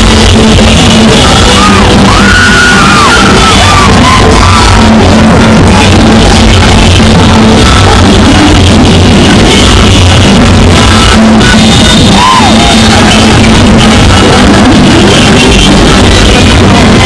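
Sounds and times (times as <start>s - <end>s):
crowd shouting: 0.0s - 17.0s
loud music: 0.0s - 17.0s.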